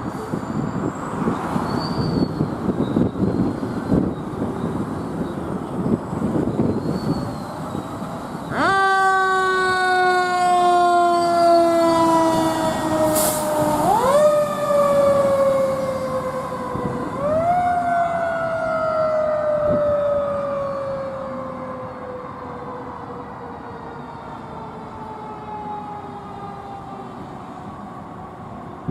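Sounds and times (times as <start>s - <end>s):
fire engine siren wailing: 0.0s - 28.9s.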